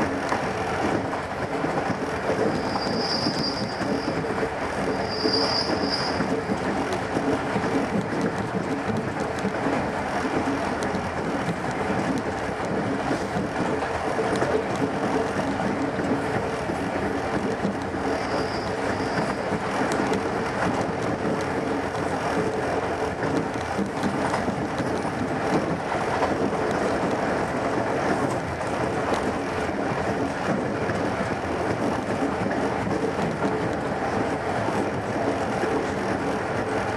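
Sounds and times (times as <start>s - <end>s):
train running on track: 0.0s - 36.9s.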